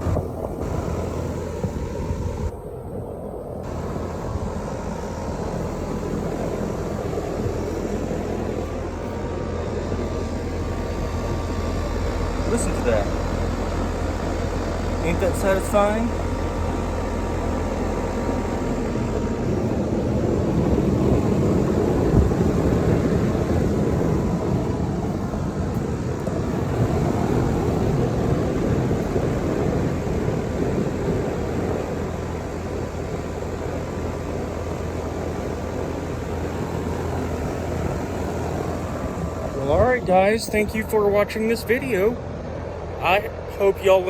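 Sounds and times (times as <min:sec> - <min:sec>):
condenser fan whoosh: 0:00.0 - 0:44.0
constant low hum: 0:00.0 - 0:44.0.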